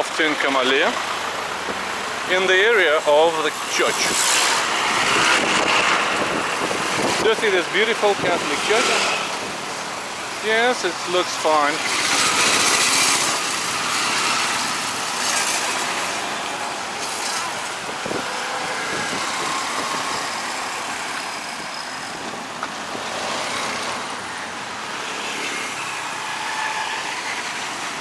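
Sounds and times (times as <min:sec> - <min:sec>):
passing vehicle engines: 0:00.0 - 0:28.0
tyre noise: 0:00.0 - 0:28.0.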